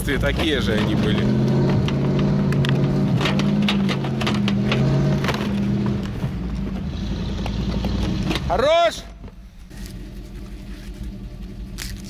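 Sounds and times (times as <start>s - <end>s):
towed car knocking and rattling: 0.0s - 10.5s
truck engine running: 0.0s - 12.0s.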